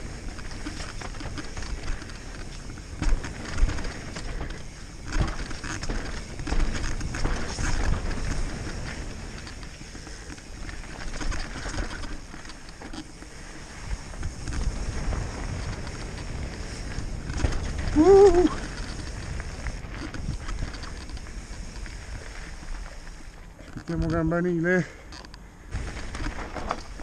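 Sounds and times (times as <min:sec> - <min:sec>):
bike rattling over rocks: 0:00.0 - 0:27.0
bike tyres rumbling on dirt: 0:00.0 - 0:27.0.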